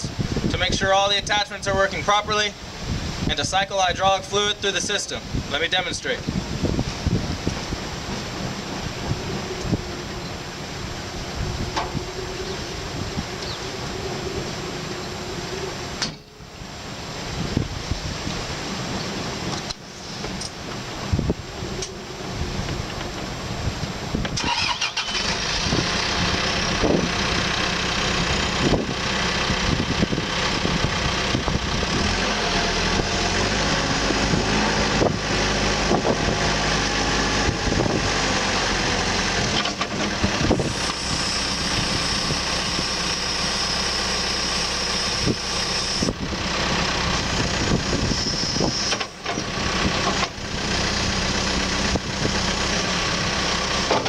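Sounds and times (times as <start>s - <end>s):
diesel engine starting and idling: 0.0s - 16.0s, 21.6s - 54.0s.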